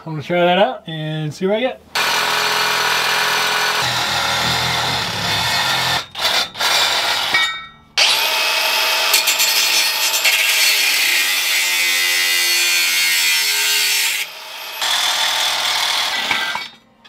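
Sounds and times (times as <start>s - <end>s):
angle grinder cutting steel pipe: 2.0s - 16.8s.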